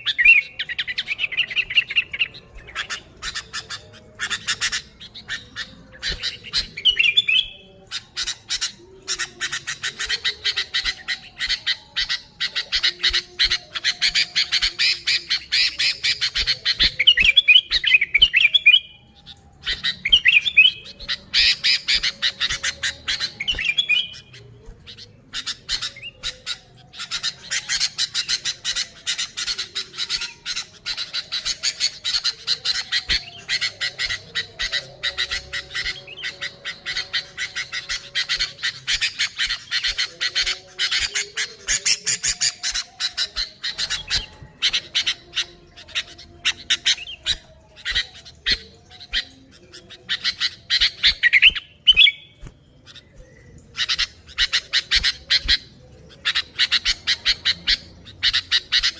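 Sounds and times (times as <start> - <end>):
birds chattering harshly: 0.0 - 58.9
bubbly whistled bird phrases: 0.0 - 58.9.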